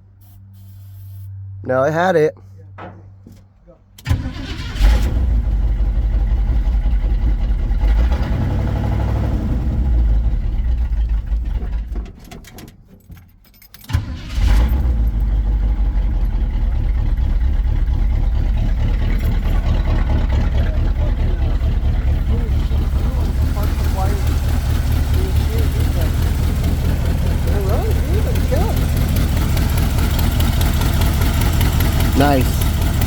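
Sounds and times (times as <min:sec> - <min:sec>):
car engine idling: 0:04.0 - 0:12.0, 0:14.1 - 0:33.0.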